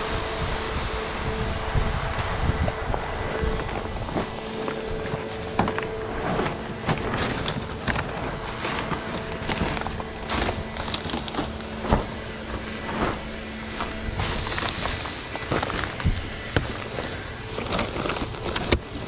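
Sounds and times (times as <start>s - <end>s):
faint steady hum: 0.0s - 19.0s
dry branches crackling and snapping: 1.6s - 19.0s
plastic tarp rustling: 3.3s - 19.0s.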